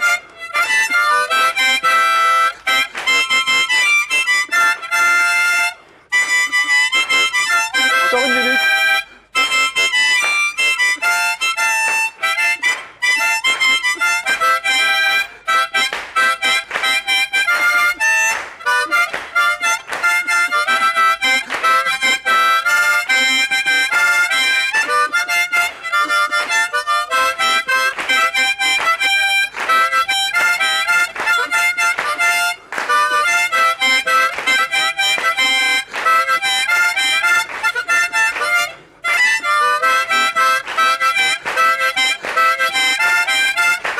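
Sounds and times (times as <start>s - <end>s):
harmonica playing lively tune: 0.0s - 43.9s.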